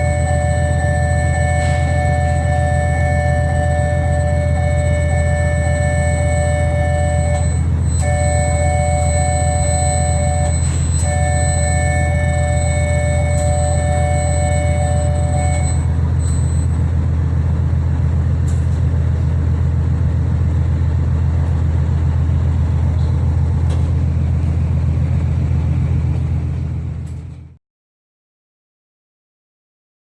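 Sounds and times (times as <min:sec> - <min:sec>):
ferry engines droning: 0:00.0 - 0:27.6.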